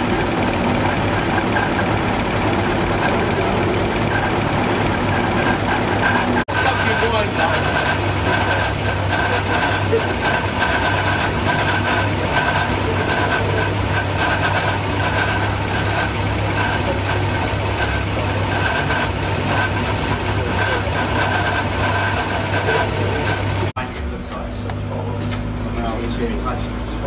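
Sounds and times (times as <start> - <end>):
car engine running steadily: 0.0 - 27.0.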